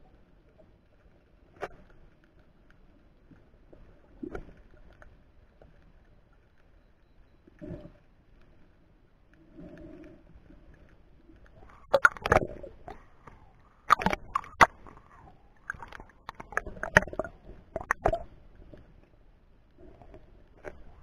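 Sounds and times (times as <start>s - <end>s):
water sloshing and gurgling: 0.0s - 6.9s, 7.5s - 21.0s.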